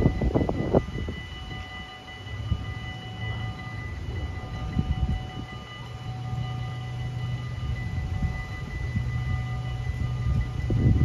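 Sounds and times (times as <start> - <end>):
level-crossing bells ringing: 0.0 - 11.0
low rumble of a train: 0.0 - 11.0.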